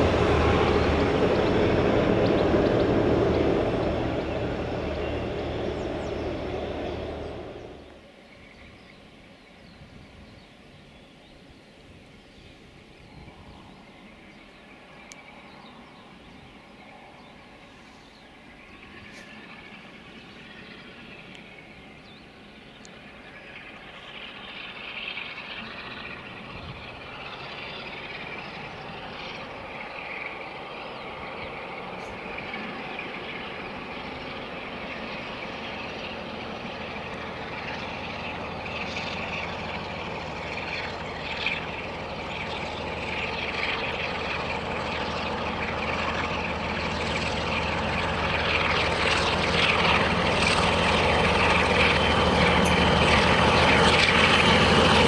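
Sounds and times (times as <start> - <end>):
birds calling faintly: 0.0 - 55.0
diesel locomotive engine: 0.0 - 55.0.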